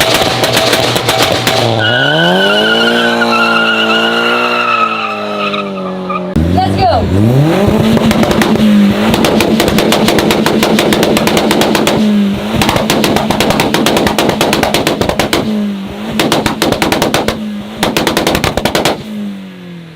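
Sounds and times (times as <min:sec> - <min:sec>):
exhaust crackling and popping: 0:00.0 - 0:04.8, 0:06.3 - 0:19.2
car engine revving: 0:00.0 - 0:19.9.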